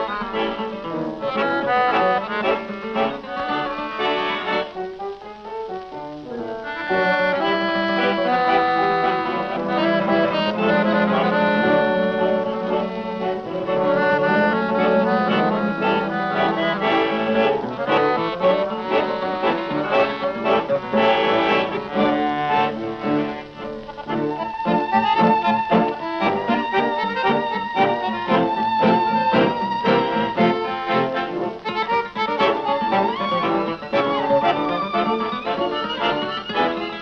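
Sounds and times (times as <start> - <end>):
accordion: 0.0 - 37.0
brass instruments: 0.0 - 37.0.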